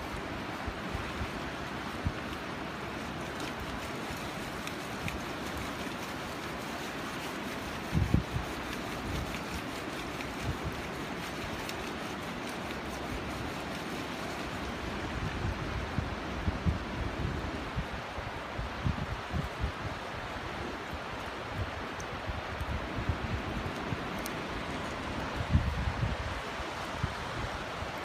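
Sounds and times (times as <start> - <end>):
small waves washing on beach: 0.0 - 28.0
wind on microphone: 0.0 - 28.0.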